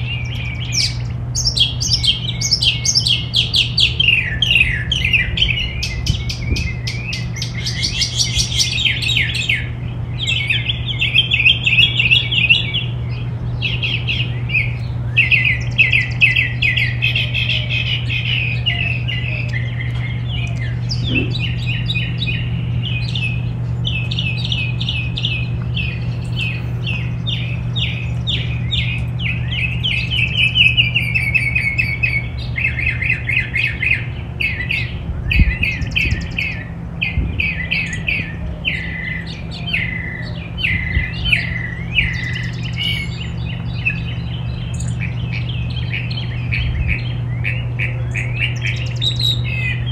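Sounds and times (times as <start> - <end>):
songbirds chirping: 0.0 - 49.9
steady low hum: 0.0 - 49.9.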